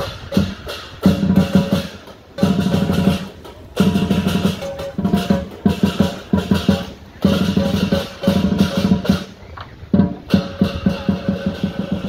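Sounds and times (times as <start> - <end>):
clashing cymbals: 0.0 - 9.4, 10.2 - 12.0
big drum beaten quickly: 0.0 - 12.0.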